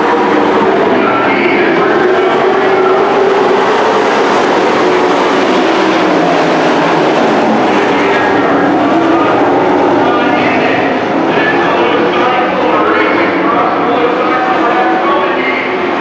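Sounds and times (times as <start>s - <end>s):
race truck engines: 0.0s - 16.0s.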